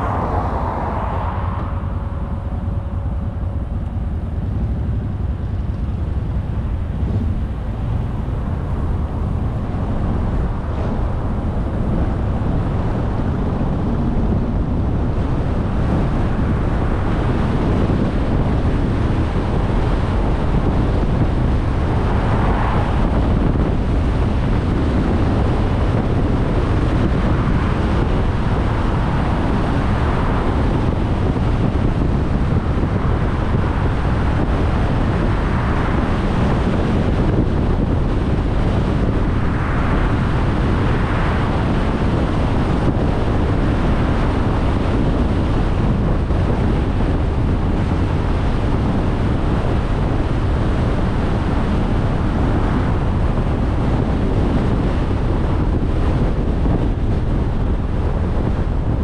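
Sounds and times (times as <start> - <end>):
low car rumble: 0.0 - 59.0
tyre and wind noise: 0.0 - 59.0.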